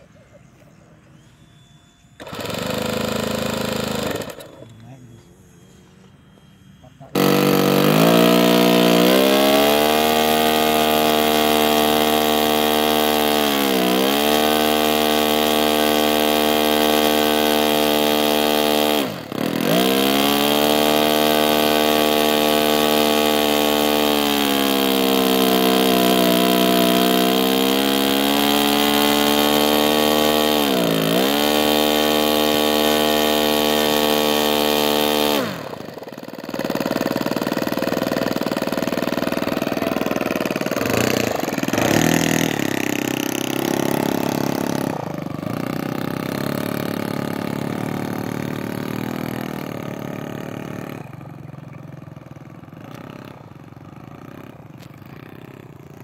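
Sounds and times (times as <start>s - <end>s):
model airplane engine running: 2.2s - 6.1s, 6.9s - 56.0s.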